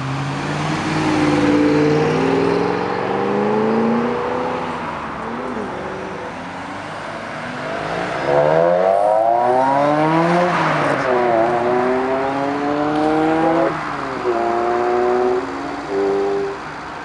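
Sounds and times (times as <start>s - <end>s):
sports car accelerating: 0.0s - 17.0s.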